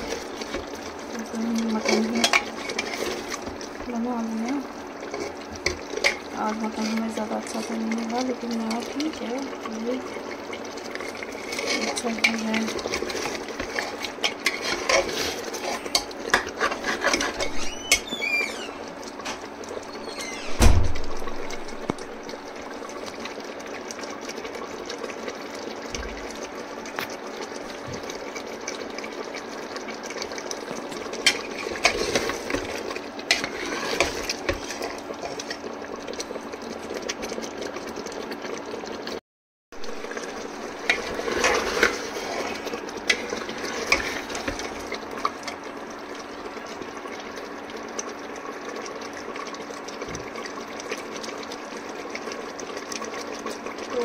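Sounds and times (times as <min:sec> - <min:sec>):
curry hissing and bubbling in pot: 0:00.0 - 0:54.0.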